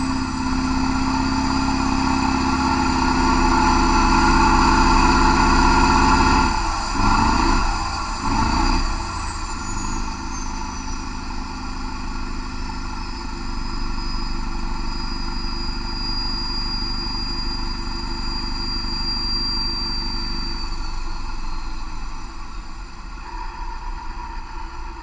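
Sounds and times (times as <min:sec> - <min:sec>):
diesel engine running steadily: 0:00.0 - 0:25.0
turbocharger whistle: 0:00.0 - 0:25.0.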